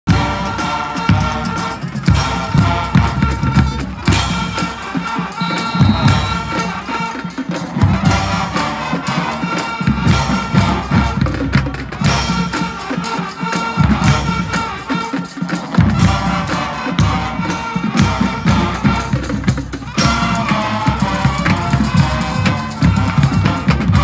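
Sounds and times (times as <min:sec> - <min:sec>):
heavy drum beats: 0:00.1 - 0:24.0
marching band playing: 0:00.1 - 0:24.0.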